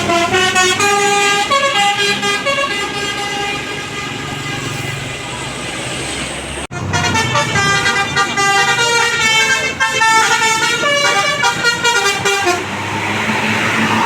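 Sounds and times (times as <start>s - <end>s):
musical bus horn melody: 0.0s - 5.3s, 6.7s - 12.8s
rushing vehicle noise: 0.0s - 14.0s.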